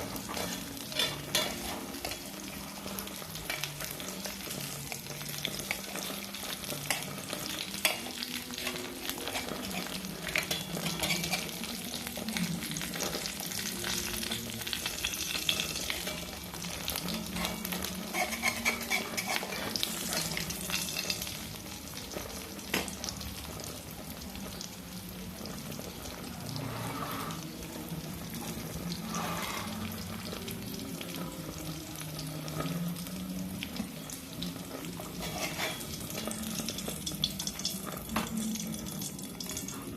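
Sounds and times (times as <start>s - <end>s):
batter sizzling in a pan: 0.0s - 39.9s.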